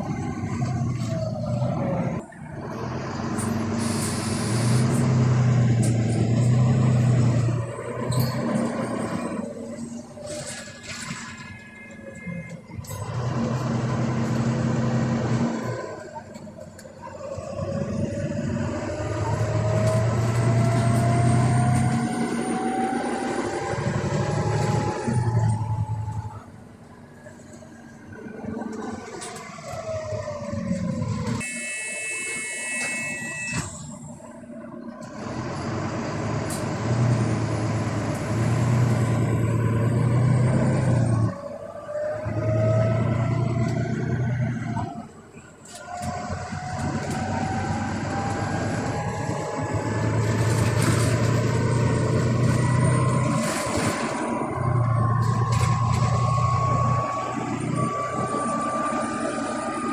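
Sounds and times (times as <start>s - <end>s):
bus diesel engine pulling: 0.0s - 59.9s
drivetrain whine: 0.0s - 59.9s.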